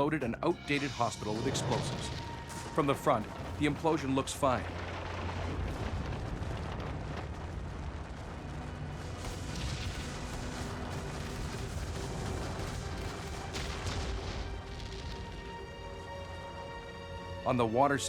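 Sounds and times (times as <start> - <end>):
background music: 0.0 - 18.0
deep rumble: 0.6 - 16.8.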